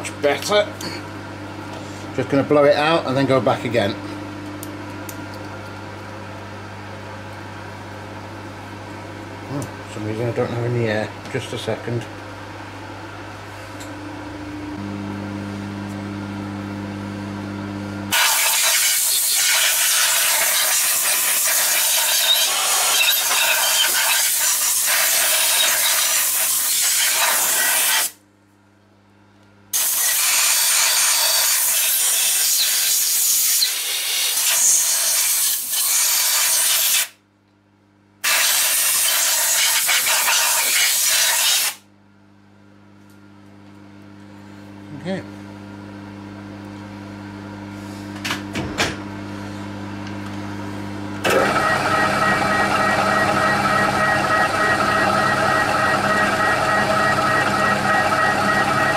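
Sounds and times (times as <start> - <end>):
steady electric hum: 0.0 - 33.6, 34.3 - 58.9.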